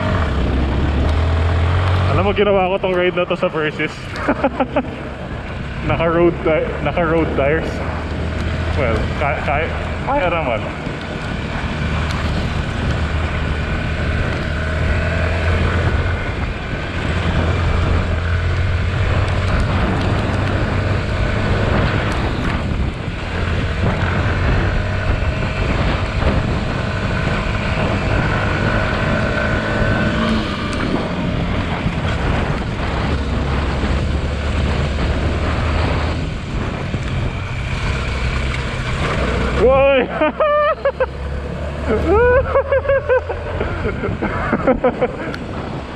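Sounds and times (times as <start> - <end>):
motorcycle engine running: 0.0 - 42.4
wind on microphone: 4.1 - 40.2, 41.1 - 45.9.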